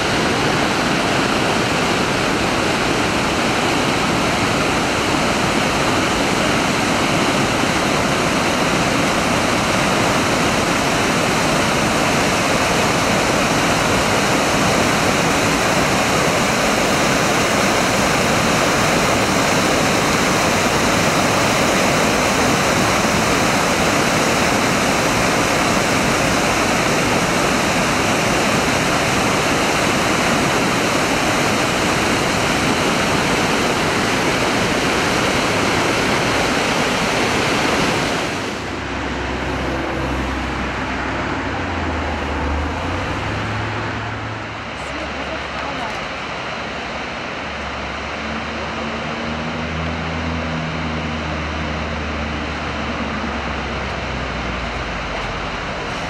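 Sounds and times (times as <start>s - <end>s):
whitewater roaring over rocks: 0.0s - 56.0s.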